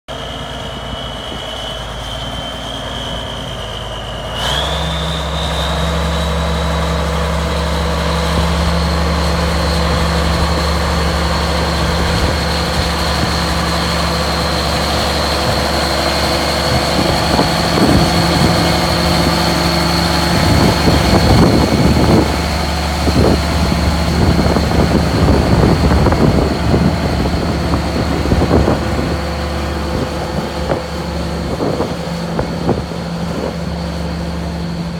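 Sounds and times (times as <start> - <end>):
high whine: 0.1 - 34.9
tractor diesel engine running: 0.1 - 34.9
wind noise on microphone: 4.3 - 34.9.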